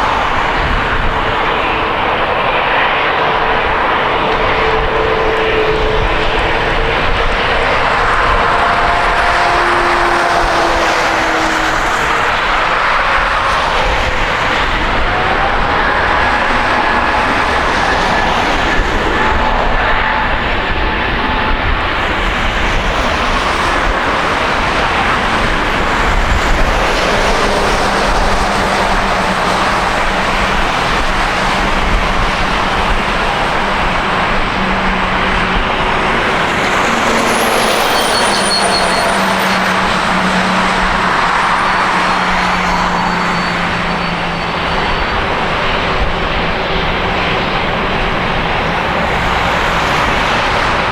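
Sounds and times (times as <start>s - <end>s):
high-pitched whine: 0.0s - 50.9s
jet engines running: 0.0s - 50.9s.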